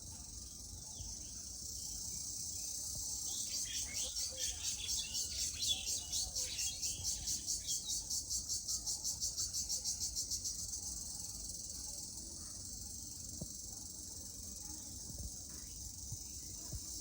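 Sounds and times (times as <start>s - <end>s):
cricket chirring: 0.0s - 17.0s
high insect hiss: 0.0s - 17.0s.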